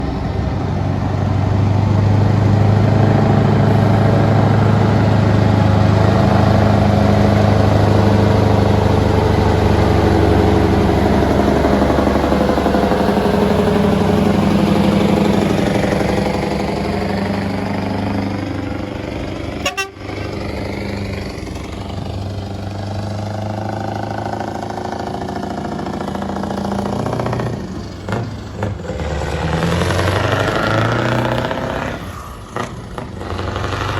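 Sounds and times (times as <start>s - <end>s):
lorry diesel engine running: 0.0s - 33.9s.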